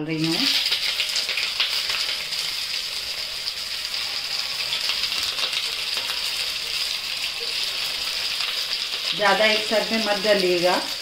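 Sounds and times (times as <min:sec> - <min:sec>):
bread rolls sizzling in hot oil: 0:00.0 - 0:11.0.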